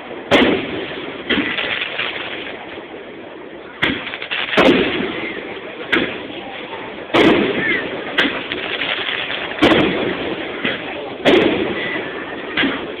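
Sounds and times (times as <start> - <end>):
firework shells booming: 0.0 - 13.0
murmur of crowd: 0.0 - 13.0.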